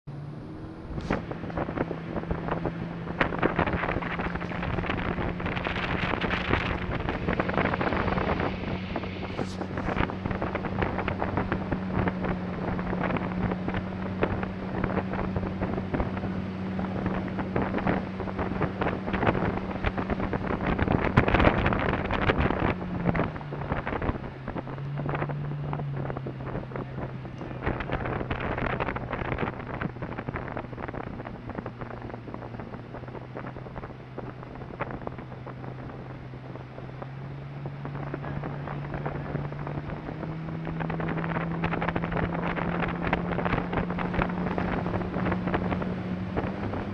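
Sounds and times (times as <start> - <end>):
boat motor running: 0.0 - 46.9
wind buffeting microphone: 0.1 - 46.9.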